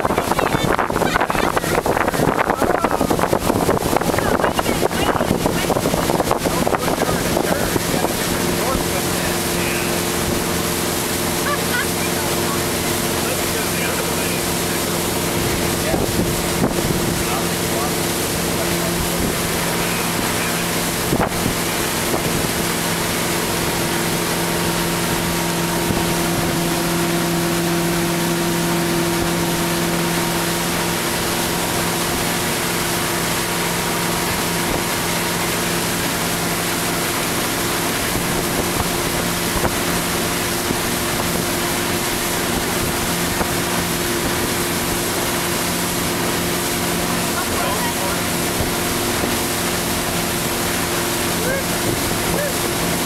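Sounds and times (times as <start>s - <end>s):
wind buffeting microphone: 0.0s - 13.2s, 14.2s - 53.0s
boat engine humming: 0.0s - 53.0s
rushing water from wake: 0.0s - 53.0s.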